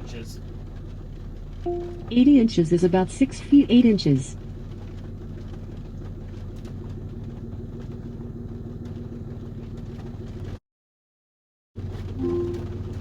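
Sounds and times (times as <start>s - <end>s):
car engine humming: 0.0s - 10.6s, 11.8s - 13.0s.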